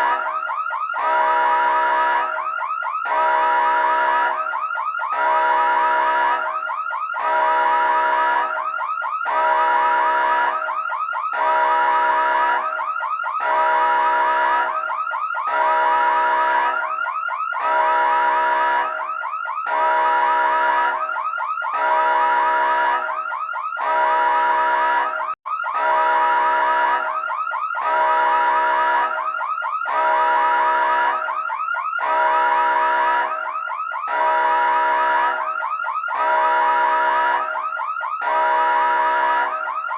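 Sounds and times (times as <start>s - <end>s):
emergency siren wavering: 0.0s - 39.9s.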